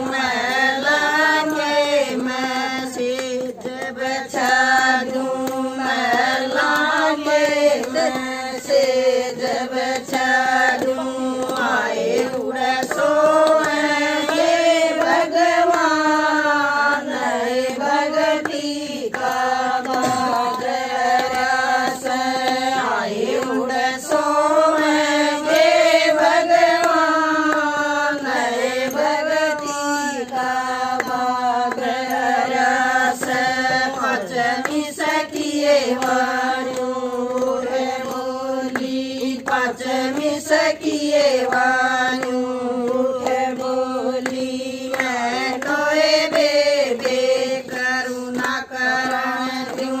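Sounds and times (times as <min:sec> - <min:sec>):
hand claps: 0:00.0 - 0:50.0
women singing devotional song: 0:00.0 - 0:50.0.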